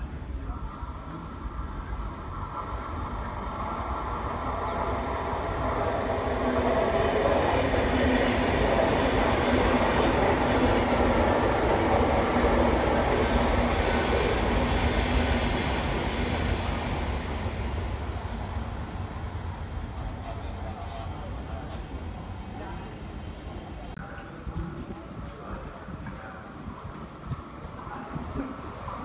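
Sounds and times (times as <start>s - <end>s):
electric train passing: 0.0s - 23.7s.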